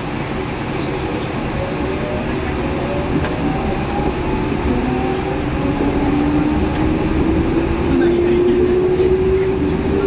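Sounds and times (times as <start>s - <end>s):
tyres rumbling on guideway: 0.0s - 10.0s.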